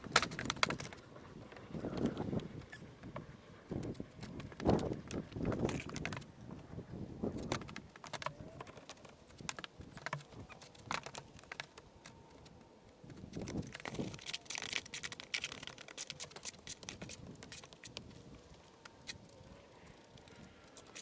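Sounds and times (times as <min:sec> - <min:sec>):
stones and tools clicking: 0:00.0 - 0:06.3, 0:07.3 - 0:21.0.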